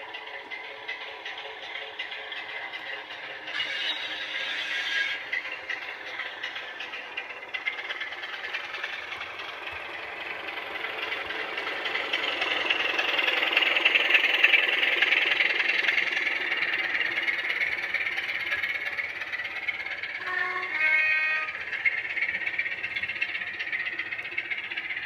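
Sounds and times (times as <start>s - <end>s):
diesel engine chugging from small speaker: 0.0s - 25.0s.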